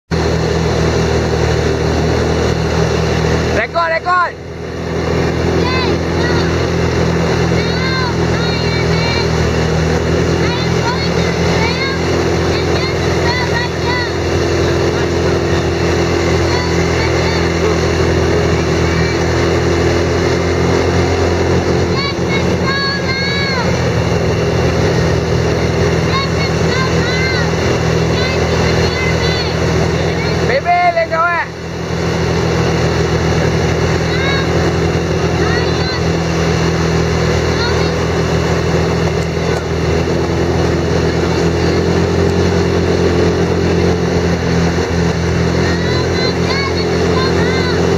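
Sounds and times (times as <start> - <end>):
atv engines droning: 0.0 - 47.9
rushing noise of the ride: 0.1 - 47.9.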